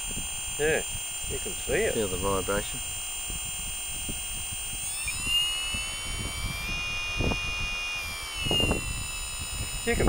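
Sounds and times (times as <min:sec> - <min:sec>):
electric motor whine: 0:00.0 - 0:10.0.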